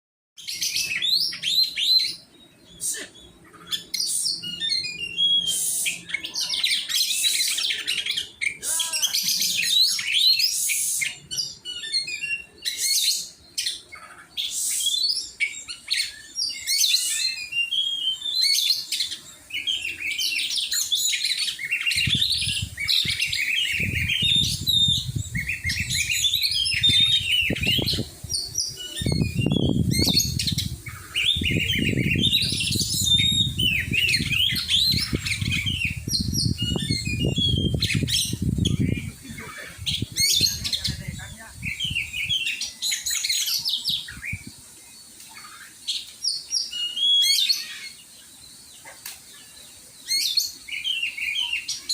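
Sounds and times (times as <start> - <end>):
bird singing whistles and chirps: 0.4 - 51.9.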